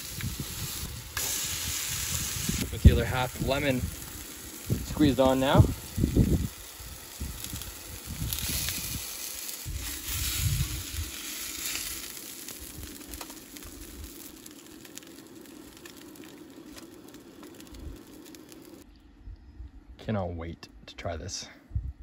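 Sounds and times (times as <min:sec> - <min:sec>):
fish sizzling in a skillet: 0:00.0 - 0:18.8.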